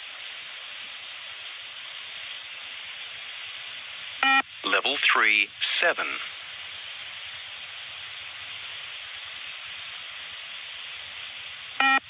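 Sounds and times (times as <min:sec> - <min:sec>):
steady recording hiss: 0:00.0 - 0:12.0.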